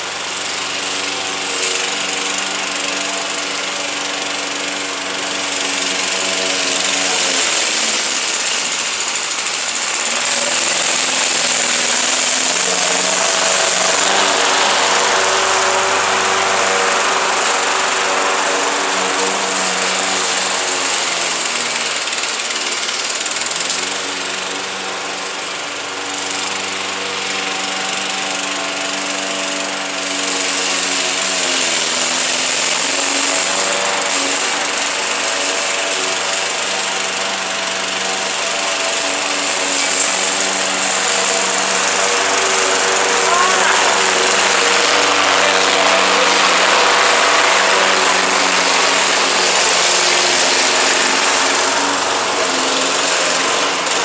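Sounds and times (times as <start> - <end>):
lawn mower engine cutting grass: 0.0 - 54.0.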